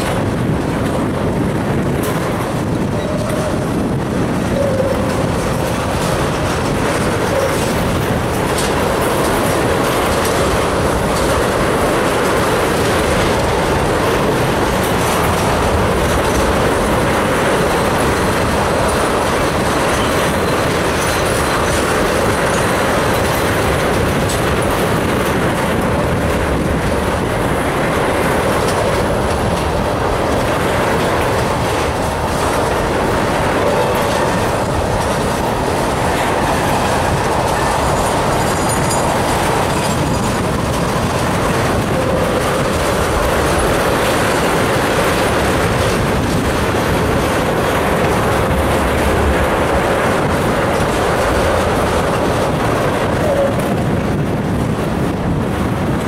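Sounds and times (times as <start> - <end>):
tank car wheels clattering: 0.0 - 56.0.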